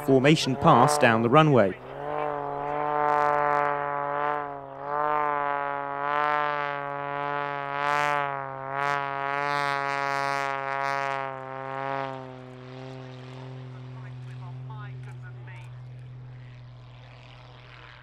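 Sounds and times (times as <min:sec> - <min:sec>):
propeller plane engine droning: 0:00.0 - 0:18.0.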